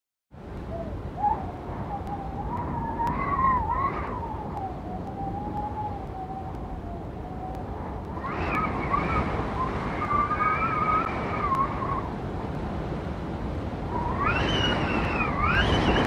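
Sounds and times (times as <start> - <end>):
howling wind whistle: 0.4 - 16.0
wind buffeting microphone: 0.4 - 16.0.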